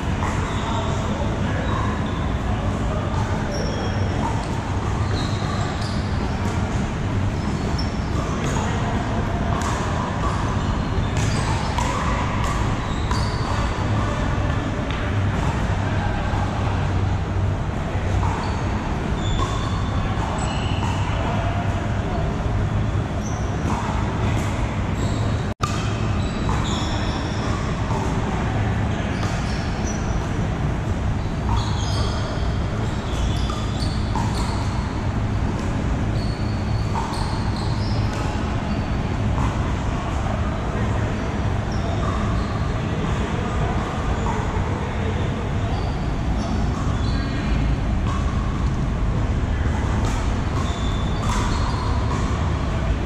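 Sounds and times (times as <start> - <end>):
distant voices: 0.0 - 53.0
steady low hum: 0.0 - 53.0.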